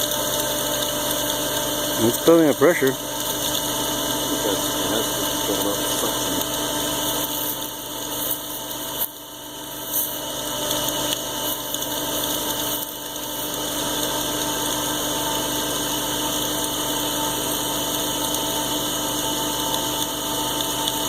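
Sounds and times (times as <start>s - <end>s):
water pump humming: 0.0s - 21.0s.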